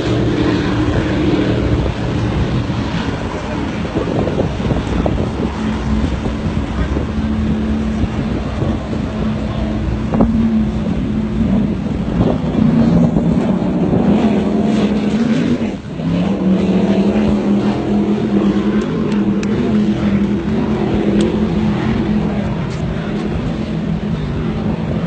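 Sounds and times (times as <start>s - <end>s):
powerboat engine running: 0.0s - 25.0s.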